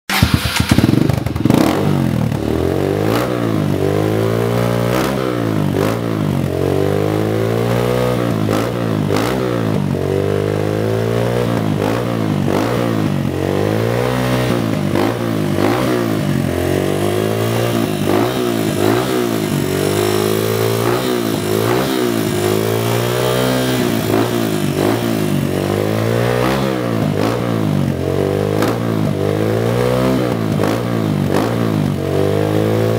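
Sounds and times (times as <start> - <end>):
motorcycle engine revving: 0.1 - 32.9.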